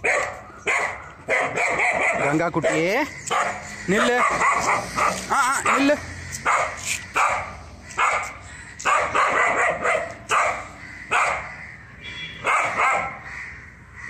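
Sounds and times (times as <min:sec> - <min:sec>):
dog barking: 0:00.0 - 0:11.5, 0:12.4 - 0:13.2.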